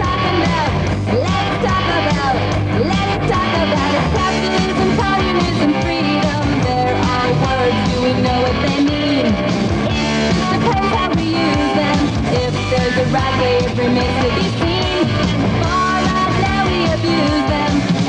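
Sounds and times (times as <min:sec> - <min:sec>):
rock song with electric guitar: 0:00.0 - 0:18.0.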